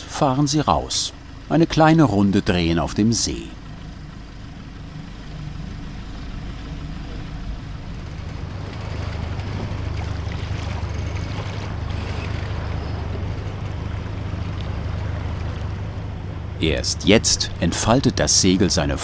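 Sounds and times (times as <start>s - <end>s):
water noise: 0.0s - 19.0s
wind: 0.0s - 19.0s
low rumble: 1.1s - 19.0s.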